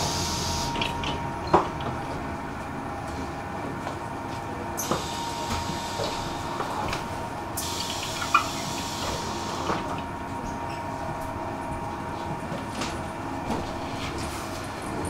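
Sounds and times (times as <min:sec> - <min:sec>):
tram running rumble: 0:00.0 - 0:15.0.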